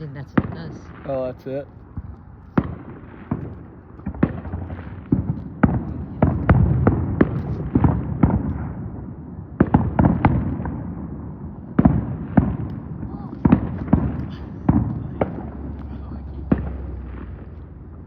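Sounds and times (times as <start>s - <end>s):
firework crackle: 0.3s - 18.0s
firework pops and cracks: 1.7s - 18.0s.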